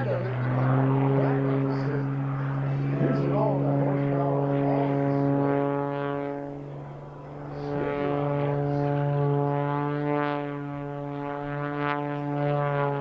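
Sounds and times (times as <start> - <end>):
airplane propeller engine droning: 0.0 - 13.0.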